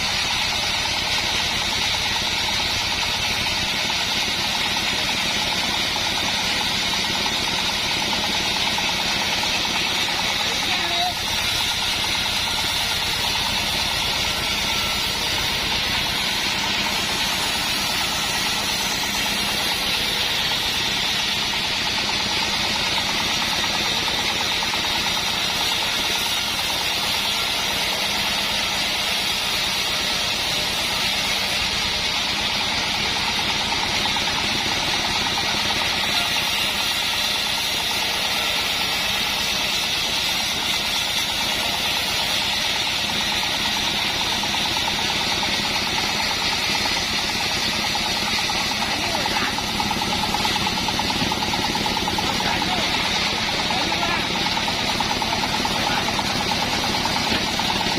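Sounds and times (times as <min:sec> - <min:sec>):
band sawmill running: 0:00.0 - 0:57.9.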